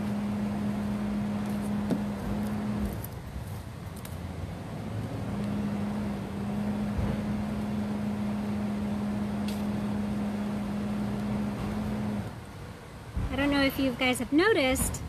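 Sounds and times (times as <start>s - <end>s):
faint outdoor noise: 0.0s - 15.0s
low mechanical hum: 0.0s - 15.0s.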